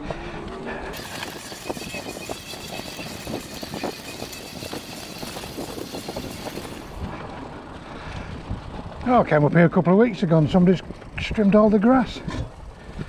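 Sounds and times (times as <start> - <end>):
bike tyres on bumpy ground: 0.0 - 13.0
bike rattles and knocks: 0.9 - 13.0.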